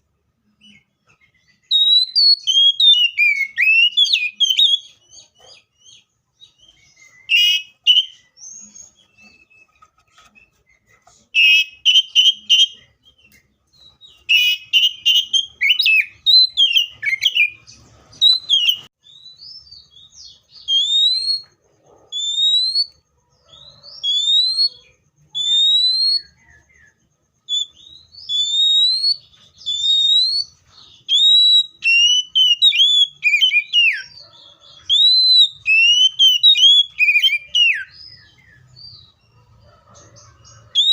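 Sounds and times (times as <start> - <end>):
magpie-robin singing: 0.4 - 40.9.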